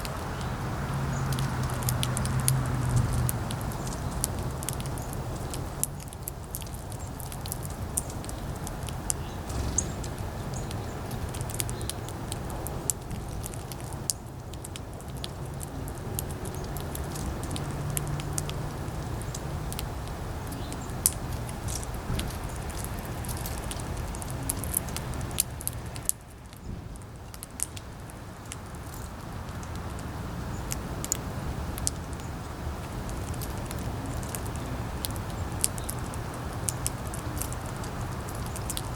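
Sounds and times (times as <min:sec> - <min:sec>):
clicks and taps of animals feeding: 0:00.0 - 0:38.9
wind buffeting microphone: 0:00.0 - 0:38.9.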